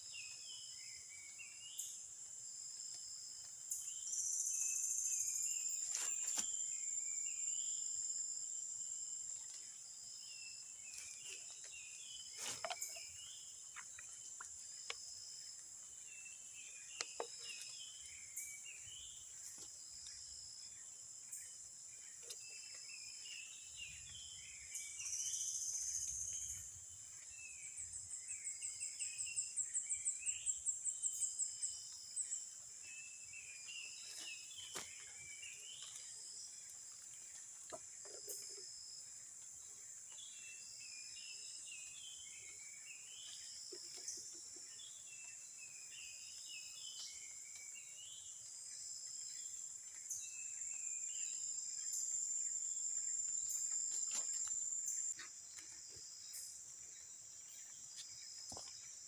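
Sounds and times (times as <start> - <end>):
short insect chirps: 2.8 - 59.0
birds twittering: 8.9 - 59.0.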